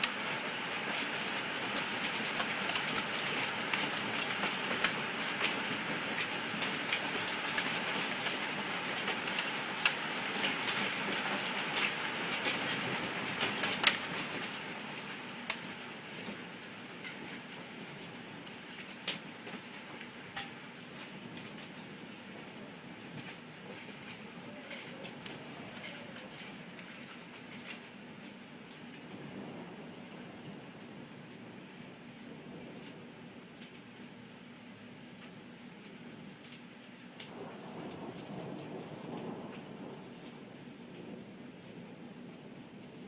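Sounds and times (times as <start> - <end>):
hail pelting a patio: 0.0 - 43.0.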